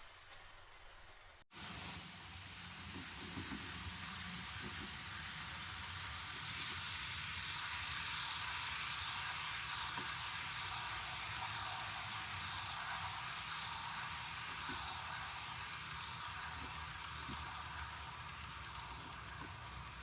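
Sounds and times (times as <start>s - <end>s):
steady hiss: 1.5s - 20.0s.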